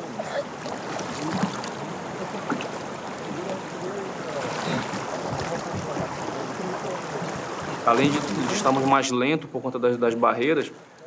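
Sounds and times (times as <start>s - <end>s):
water splashing in a stream: 0.0s - 9.0s
boat dragged through water: 0.0s - 9.1s.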